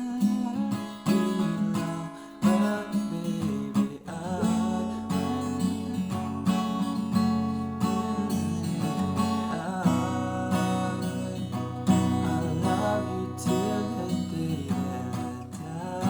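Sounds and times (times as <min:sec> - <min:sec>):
person singing: 0:00.0 - 0:06.8, 0:07.9 - 0:16.0
acoustic guitar strumming chords: 0:00.0 - 0:16.0.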